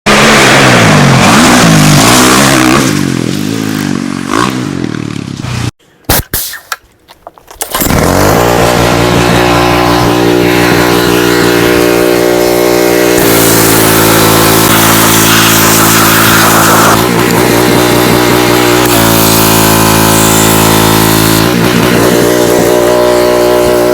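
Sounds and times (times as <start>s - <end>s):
dirt bike engine revving: 0.1s - 5.7s, 7.6s - 23.9s.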